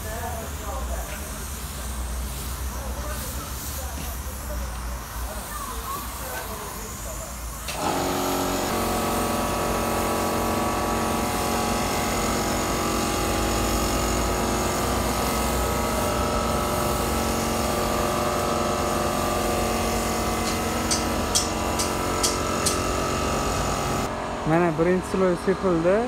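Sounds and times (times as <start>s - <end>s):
paint spray gun hissing: 0.0s - 24.1s
mechanical hum: 0.0s - 26.0s.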